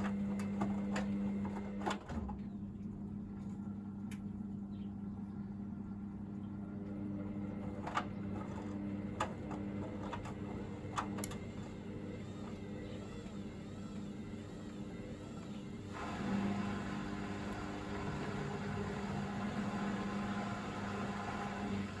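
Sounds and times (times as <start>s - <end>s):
washing machine pump hum: 0.0s - 22.0s.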